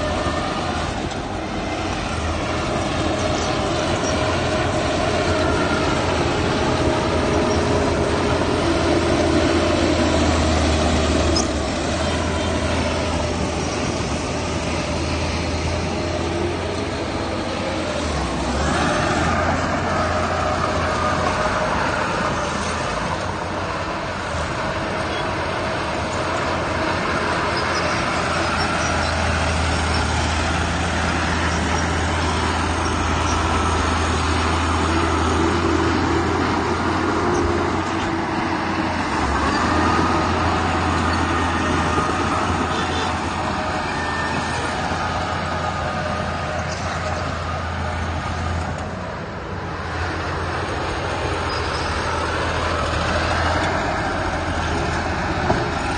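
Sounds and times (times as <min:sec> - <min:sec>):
heavy diesel machinery drone: 0:00.0 - 0:55.9.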